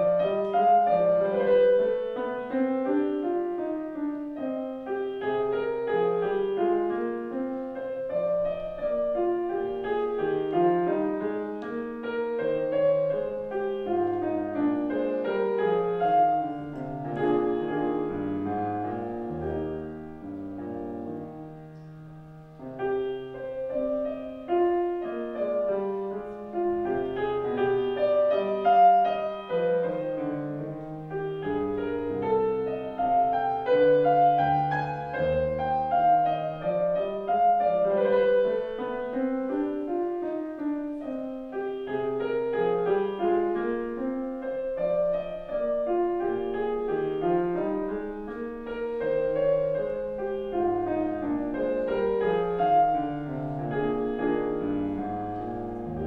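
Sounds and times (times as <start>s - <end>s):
grand piano classical music: 0.0s - 56.0s.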